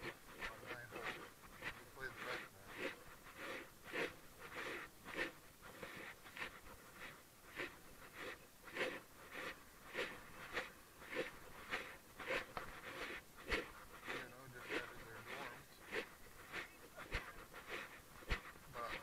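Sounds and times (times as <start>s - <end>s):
footsteps on concrete: 0.0s - 19.0s.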